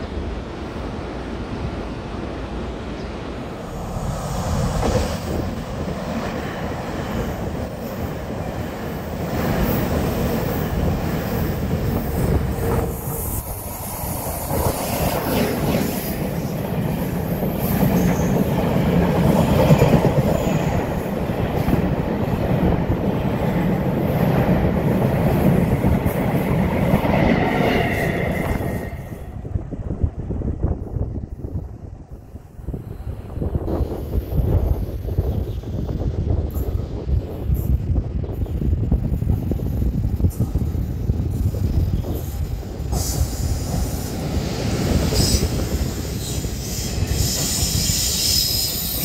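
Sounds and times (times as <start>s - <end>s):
electric train passing: 0.0s - 49.0s.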